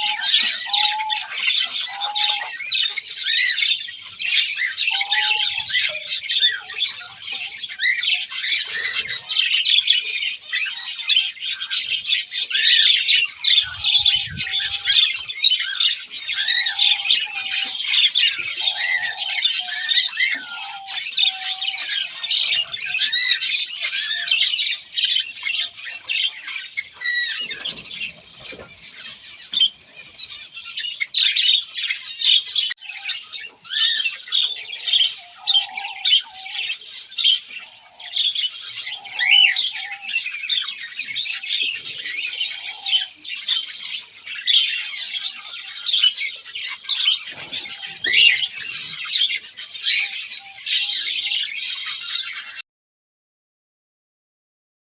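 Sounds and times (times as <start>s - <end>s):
birds chirping in chorus: 0.0s - 52.6s.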